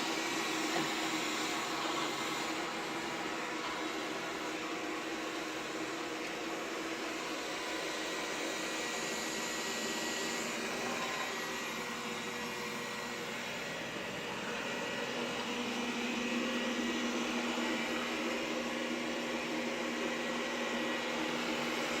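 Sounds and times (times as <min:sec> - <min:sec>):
robot vacuum cleaner whirring: 0:00.0 - 0:22.0.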